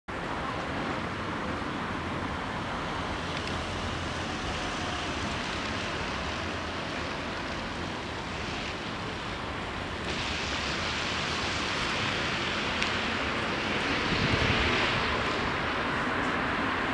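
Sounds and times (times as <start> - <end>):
street traffic: 0.1 - 16.9
wind hiss: 0.1 - 16.9.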